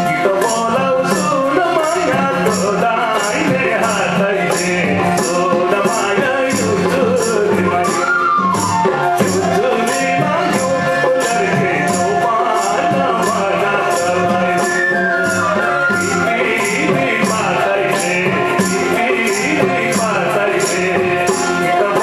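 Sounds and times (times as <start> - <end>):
barrel drum and tabla: 0.0 - 22.0
hand percussion jingle: 0.0 - 22.0
harmonium melody: 0.0 - 22.0
man singing: 0.0 - 22.0.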